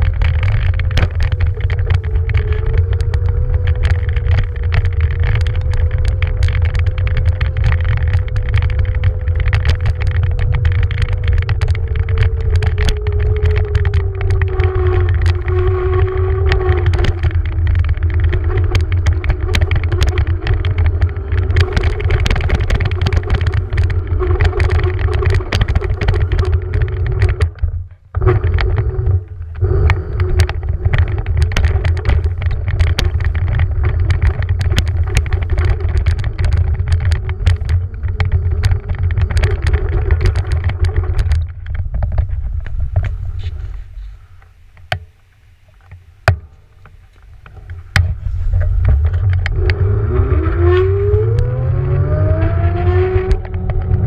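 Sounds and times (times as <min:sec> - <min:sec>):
electric scooter motor whine: 0:00.0 - 0:43.7, 0:47.4 - 0:54.0
clicks and rattles: 0:00.0 - 0:54.0
wind rumble on microphone: 0:00.0 - 0:54.0.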